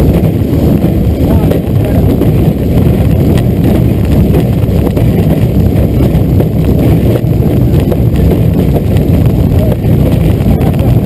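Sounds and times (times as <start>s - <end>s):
propeller plane engine running: 0.0s - 11.0s
wind buffeting microphone: 0.0s - 11.0s.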